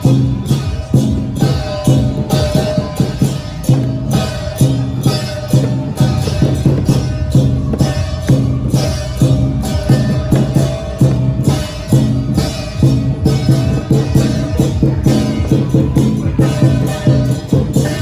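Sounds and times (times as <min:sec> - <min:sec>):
big drum beating: 0:00.0 - 0:18.0
crashing cymbals: 0:00.0 - 0:18.0.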